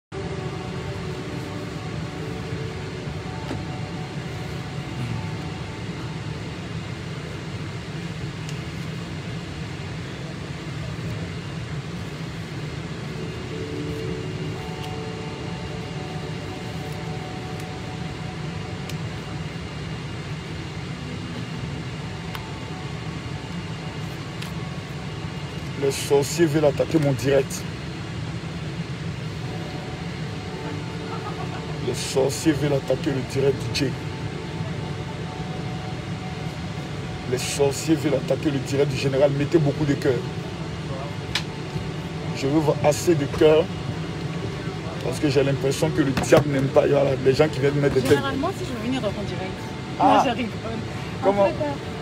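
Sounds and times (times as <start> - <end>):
airliner cabin rumble: 0.1 - 52.0.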